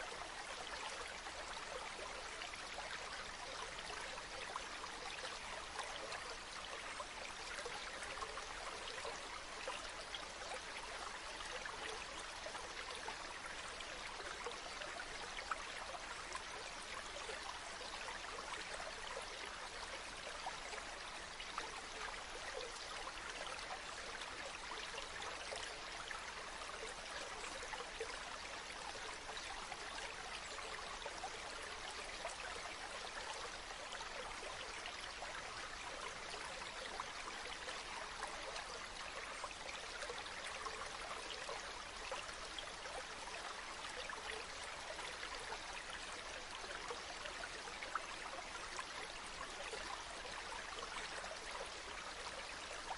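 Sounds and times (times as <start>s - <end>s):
stream flowing: 0.0s - 52.9s.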